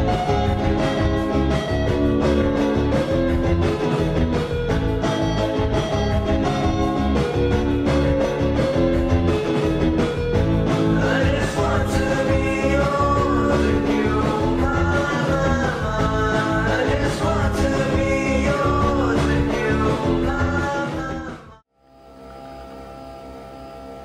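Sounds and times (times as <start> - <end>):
instrumental guitar music with beat: 0.0 - 21.4.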